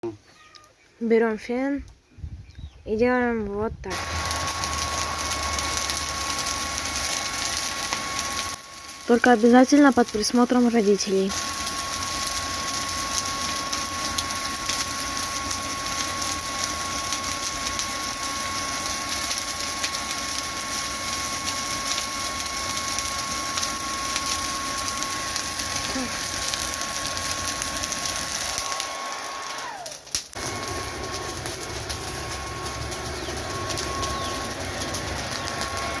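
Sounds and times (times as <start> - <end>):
charcoal crackling: 3.8 - 36.0
hair dryer blowing: 3.9 - 9.5, 11.3 - 36.0.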